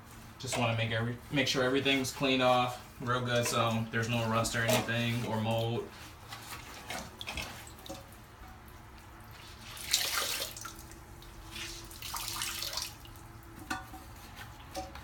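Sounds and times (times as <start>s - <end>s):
towel wiping water in tank: 0.0s - 14.8s.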